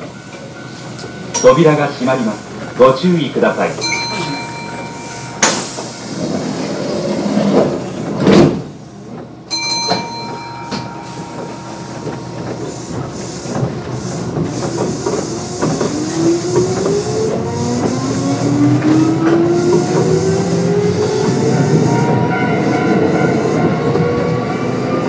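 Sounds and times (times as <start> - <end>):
train doors shutting: 0.0 - 25.0.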